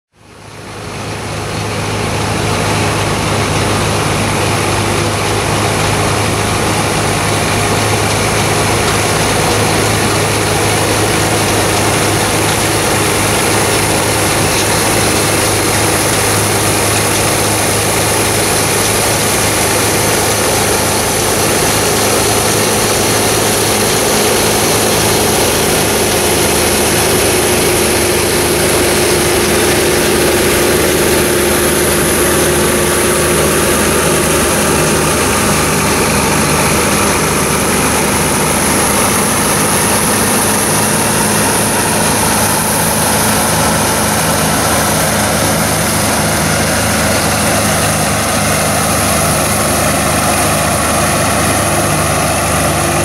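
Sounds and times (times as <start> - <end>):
combine harvester running: 0.2 - 53.0.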